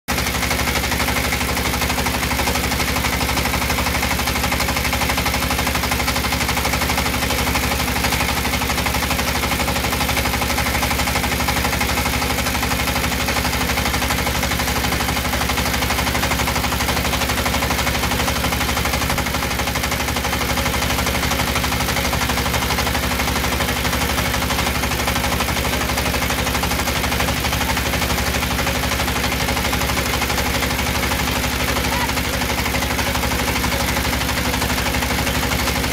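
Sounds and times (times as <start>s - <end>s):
extruder machine clattering: 0.1s - 35.9s.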